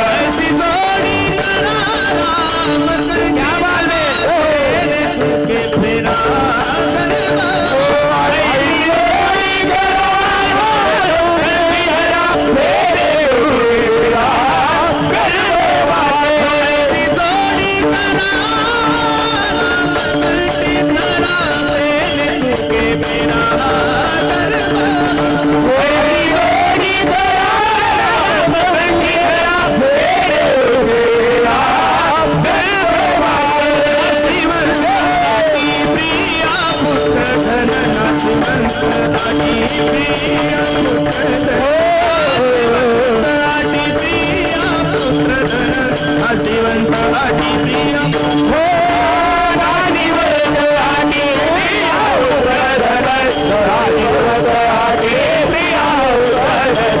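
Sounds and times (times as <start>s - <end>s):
held steady notes: 0.0s - 57.0s
jingling percussion: 0.0s - 57.0s
person singing: 0.0s - 57.0s.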